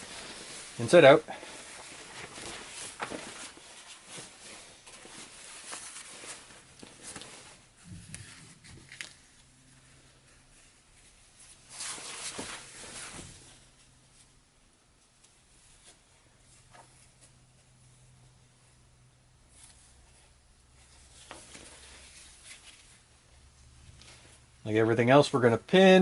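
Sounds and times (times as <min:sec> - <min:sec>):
fabric rustling and crumpling: 0:00.0 - 0:18.8, 0:19.4 - 0:24.6.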